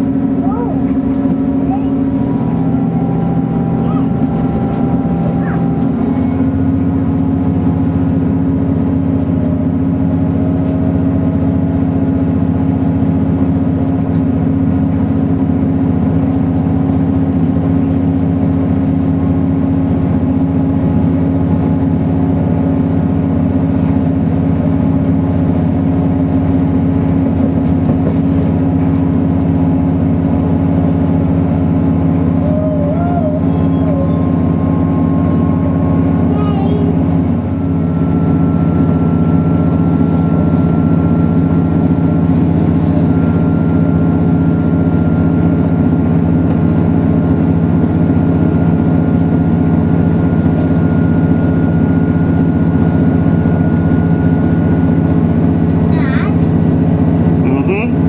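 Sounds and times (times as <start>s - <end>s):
train engine drone: 0.0s - 58.0s
train running noise: 0.0s - 58.0s.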